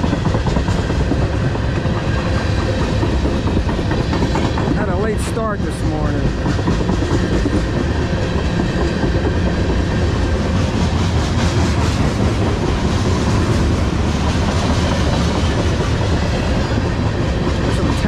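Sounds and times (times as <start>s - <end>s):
freight train wheels on rails: 0.0s - 18.0s.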